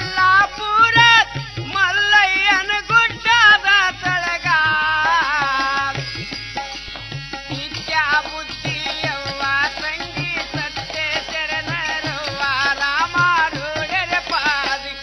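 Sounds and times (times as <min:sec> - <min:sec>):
tabla beating: 0:00.0 - 0:15.0.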